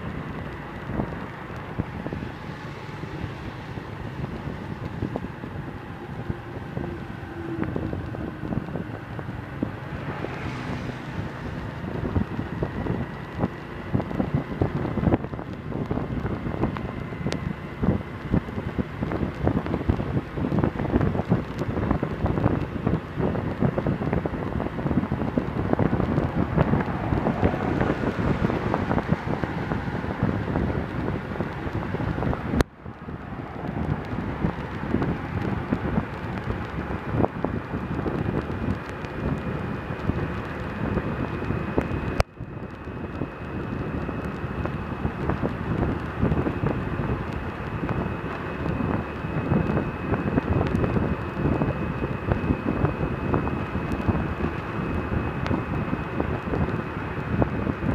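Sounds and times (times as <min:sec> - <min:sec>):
engine and road noise: 0:00.0 - 0:57.9
wind buffeting microphone: 0:00.0 - 0:57.9.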